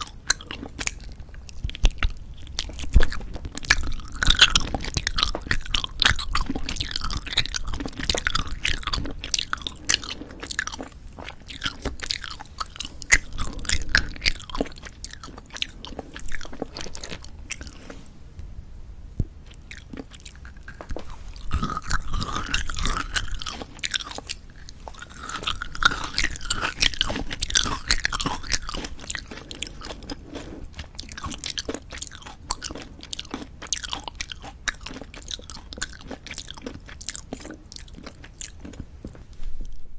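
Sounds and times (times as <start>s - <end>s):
chewing jelly candies: 0.0s - 18.0s, 19.4s - 39.3s.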